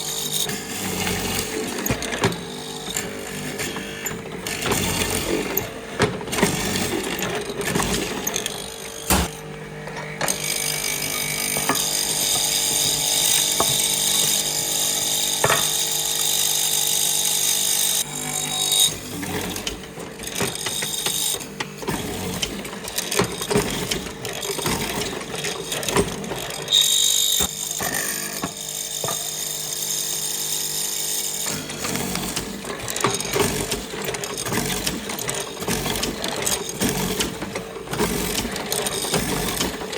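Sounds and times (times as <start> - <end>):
tool cutting wood: 0.0 - 9.5, 10.1 - 39.9
power tool humming: 0.0 - 39.9.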